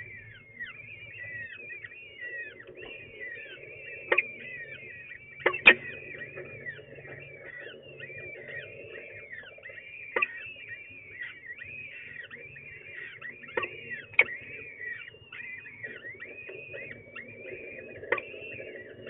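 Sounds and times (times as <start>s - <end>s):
bird chicks cheeping: 0.0s - 19.0s.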